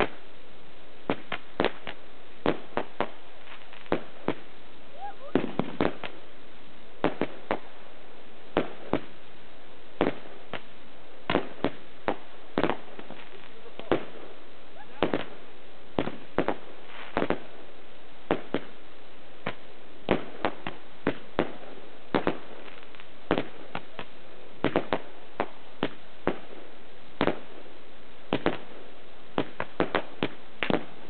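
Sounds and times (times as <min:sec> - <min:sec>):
fireworks bangs: 0:00.0 - 0:00.3, 0:01.0 - 0:31.0.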